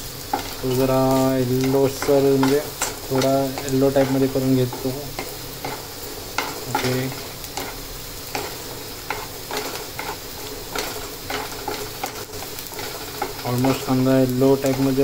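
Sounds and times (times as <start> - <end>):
onions sizzling in oil: 0.0 - 15.0
spatula scraping and tapping pan: 0.1 - 15.0.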